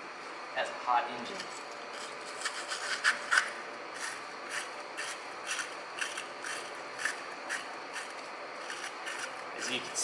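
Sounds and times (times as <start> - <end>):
wire brush scrubbing metal: 2.0 - 10.0.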